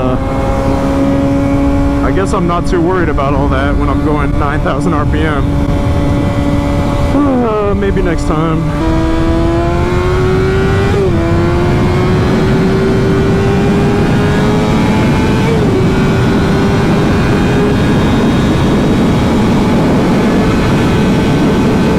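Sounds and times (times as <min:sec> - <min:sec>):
motorcycle engine accelerating: 0:00.0 - 0:21.9
wind rush on microphone: 0:00.0 - 0:21.9.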